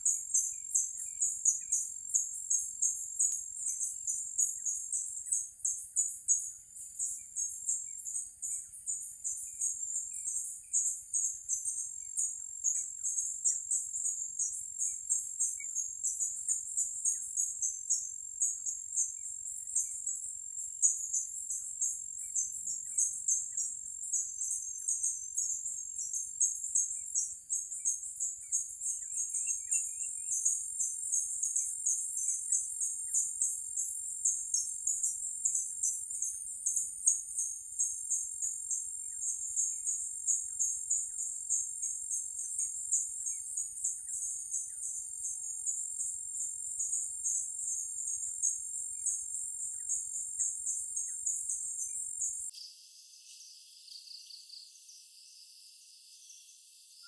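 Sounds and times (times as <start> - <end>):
insects chirping: 0.0 - 52.7
faint bird chirps: 0.0 - 57.0.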